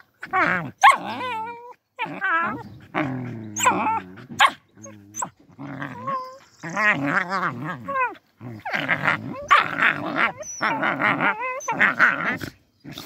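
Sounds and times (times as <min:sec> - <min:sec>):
puppies growling and yipping: 0:00.0 - 0:13.0.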